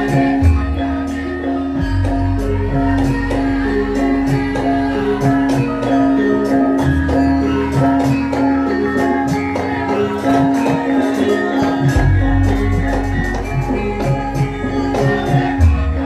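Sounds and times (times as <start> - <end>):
gamelan struck percussion: 0.0 - 16.0.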